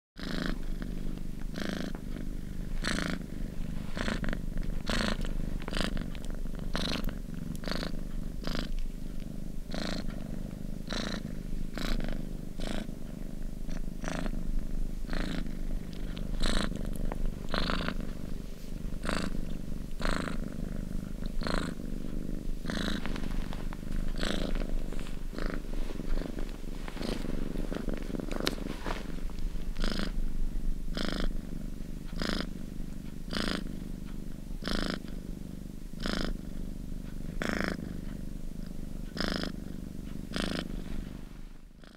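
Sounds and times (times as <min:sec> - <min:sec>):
cheetah purring: 0:00.2 - 0:41.9.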